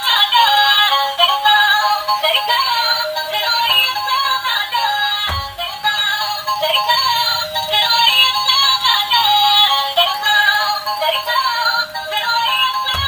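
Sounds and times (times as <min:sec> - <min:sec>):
toy electronic tune: 0:00.4 - 0:13.0.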